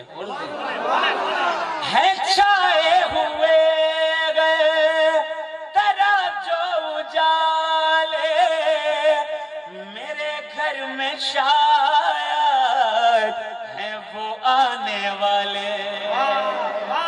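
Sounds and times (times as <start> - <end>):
man singing devotional song: 1.8 - 17.0.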